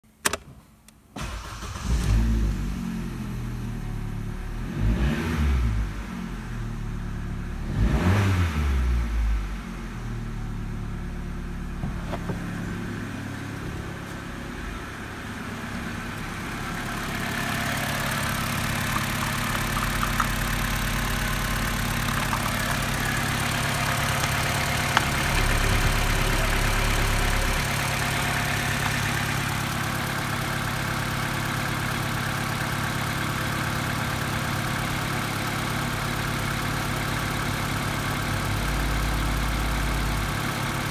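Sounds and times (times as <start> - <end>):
car engine starting and revving: 1.2 - 40.9
car engine idling: 5.8 - 8.1, 8.9 - 40.9.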